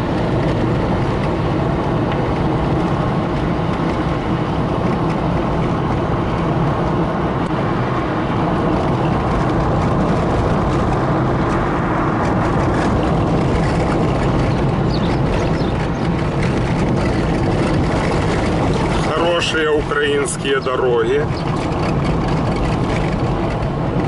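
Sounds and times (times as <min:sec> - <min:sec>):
car engine hum: 0:00.0 - 0:24.0
tyres on gravel road: 0:00.0 - 0:24.0.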